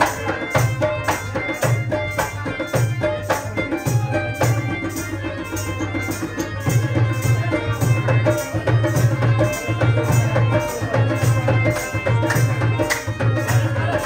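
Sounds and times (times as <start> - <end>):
tabla playing folk music: 0.0 - 14.0.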